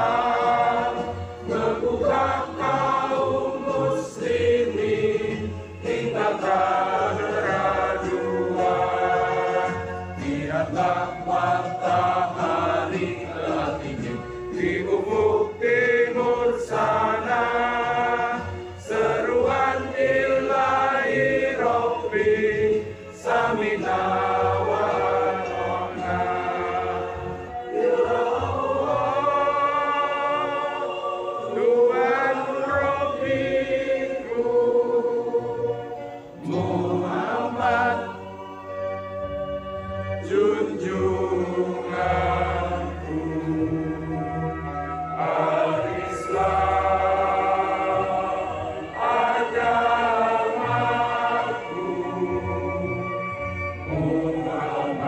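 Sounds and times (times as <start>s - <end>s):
choir singing long notes: 0.0s - 55.0s.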